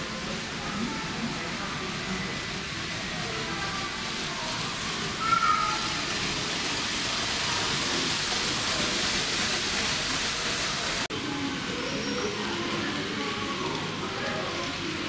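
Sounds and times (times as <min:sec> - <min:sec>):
model train motor whirring: 0:00.0 - 0:11.1, 0:11.7 - 0:15.0
wheels hissing on rail: 0:00.0 - 0:15.0.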